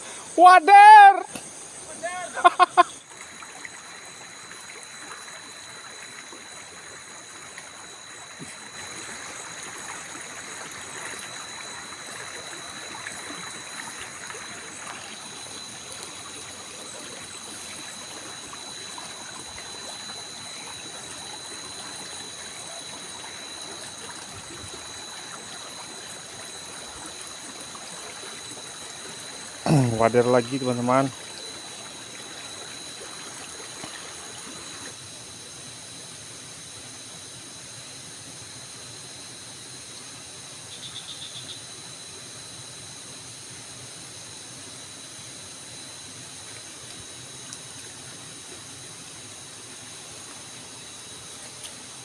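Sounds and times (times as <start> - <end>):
water flowing and trickling: 0.0 - 35.3, 44.3 - 52.0.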